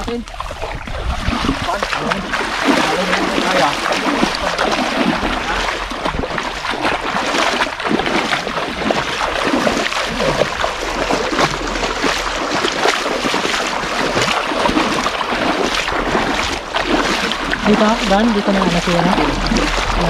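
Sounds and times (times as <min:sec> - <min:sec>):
people wading through water: 0:00.0 - 0:20.0.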